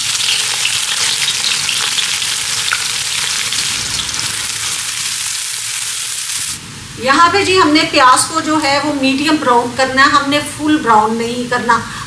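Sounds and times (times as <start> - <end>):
onion sizzling in hot fat: 0.0 - 10.4.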